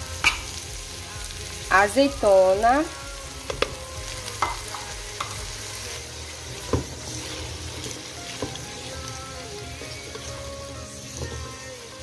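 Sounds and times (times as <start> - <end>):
food sizzling in a metal pot: 0.0 - 12.0.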